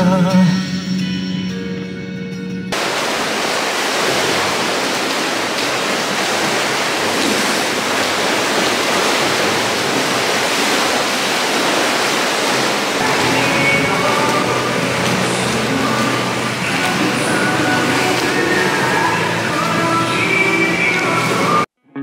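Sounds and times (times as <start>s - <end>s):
water splashing in pool: 2.7s - 21.7s.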